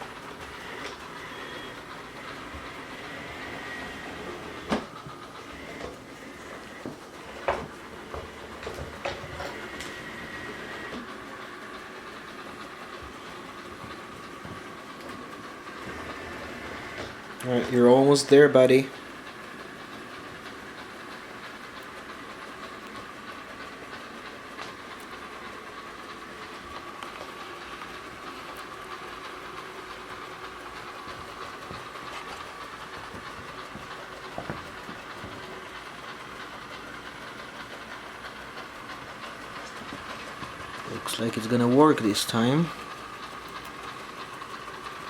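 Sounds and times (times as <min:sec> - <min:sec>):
robot vacuum whirring: 0:00.0 - 0:45.0.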